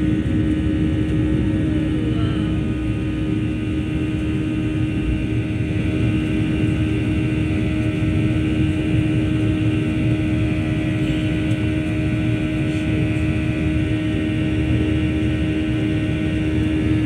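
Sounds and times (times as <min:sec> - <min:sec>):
jet engine cabin noise: 0:00.0 - 0:17.0.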